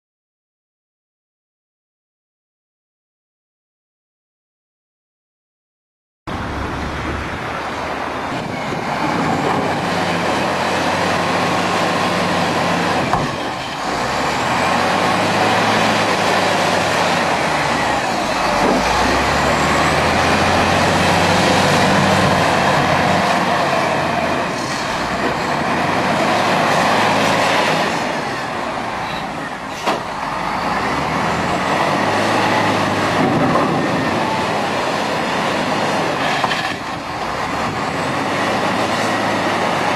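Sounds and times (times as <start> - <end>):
diesel construction machinery running: 6.3 - 39.9.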